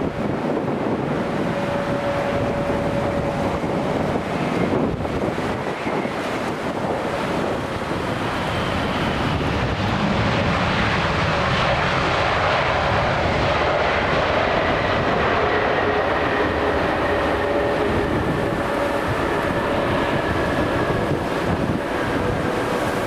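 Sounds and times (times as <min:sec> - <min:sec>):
jet engines rumbling and whining: 0:00.0 - 0:23.0.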